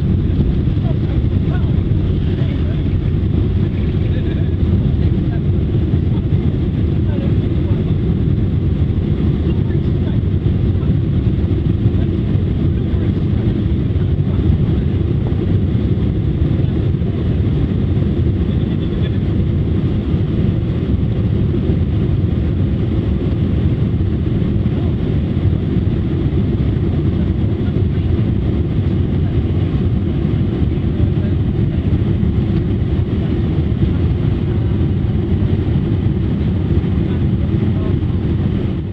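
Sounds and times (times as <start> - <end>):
vehicle rumbling in motion: 0.0 - 38.9.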